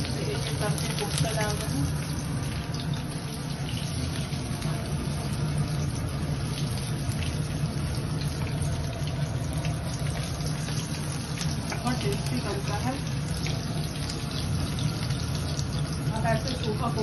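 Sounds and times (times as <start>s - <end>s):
oil sizzling and popping: 0.0s - 17.0s.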